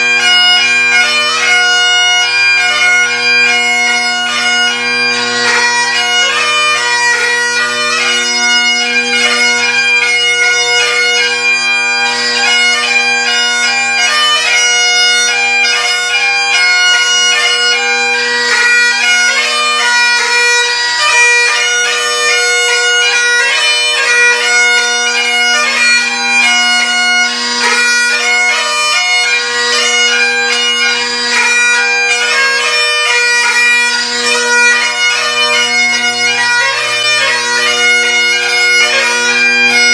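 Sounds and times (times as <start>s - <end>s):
bagpipes playing a tune: 0.0s - 39.9s.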